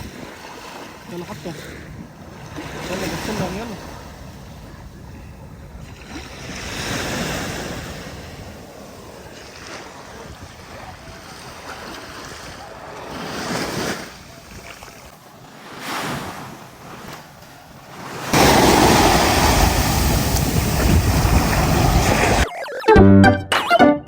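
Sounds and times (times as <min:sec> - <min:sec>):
wind on microphone: 0:00.0 - 0:15.1, 0:18.1 - 0:22.4
sea waves washing up beach: 0:00.0 - 0:22.5.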